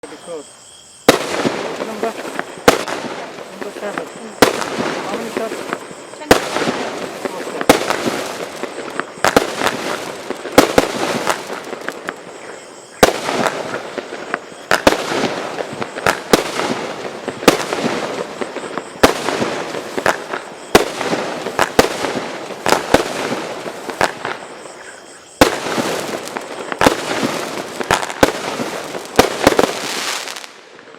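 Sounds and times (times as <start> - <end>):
fireworks reports: 0.0 - 30.9
fireworks crackling and fizzing: 1.0 - 30.9.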